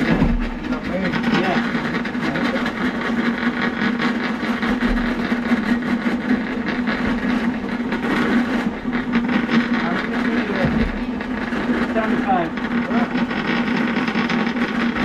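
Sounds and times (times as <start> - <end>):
cable rattling in pipe: 0.0 - 15.0
drain cleaning machine hum: 0.0 - 15.0.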